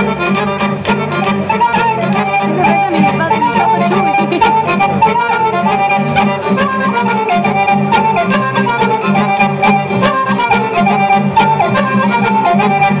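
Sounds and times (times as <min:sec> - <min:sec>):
folk band playing dance tune: 0:00.0 - 0:13.0.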